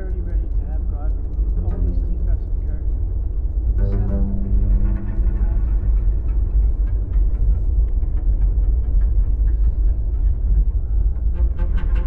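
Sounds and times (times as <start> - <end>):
deep rumbling drone: 0.0 - 12.0
faint irregular clicks: 0.0 - 12.0
low bowed strings: 0.2 - 12.0.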